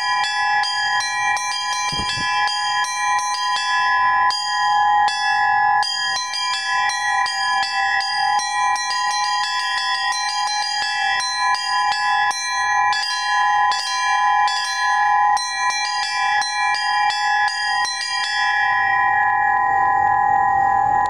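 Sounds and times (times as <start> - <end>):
small church bells pealing: 0.0 - 20.0.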